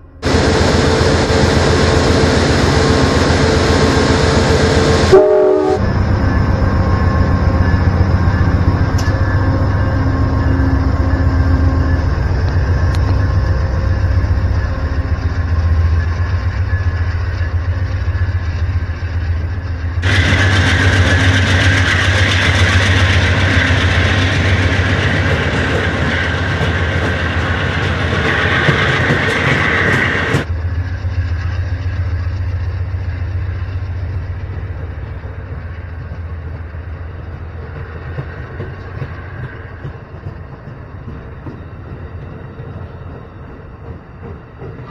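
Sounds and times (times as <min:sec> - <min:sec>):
diesel locomotive engine humming: 0:00.0 - 0:44.9
train wheel and rail noise: 0:00.0 - 0:44.9.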